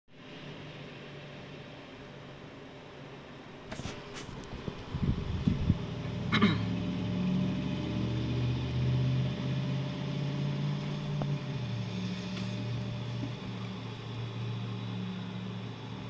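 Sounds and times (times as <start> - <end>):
low motor hum: 0.1 - 16.0.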